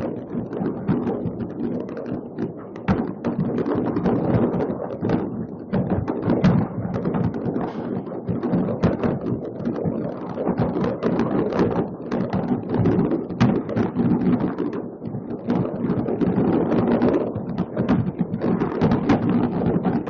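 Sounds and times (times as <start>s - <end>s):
fireworks bangs and crackles: 0.0s - 20.0s
wind buffeting microphone: 0.0s - 20.0s.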